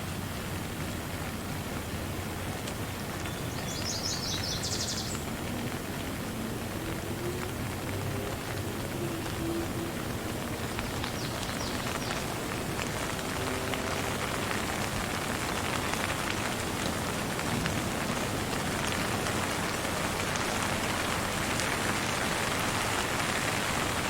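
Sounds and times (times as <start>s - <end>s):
rain hissing: 0.0s - 24.0s
raindrops ticking: 0.0s - 24.0s.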